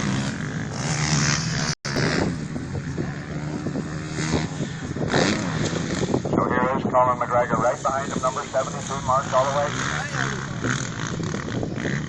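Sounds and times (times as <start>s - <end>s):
motocross bike engines revving: 0.0s - 12.0s
wind buffeting microphone: 1.9s - 12.0s.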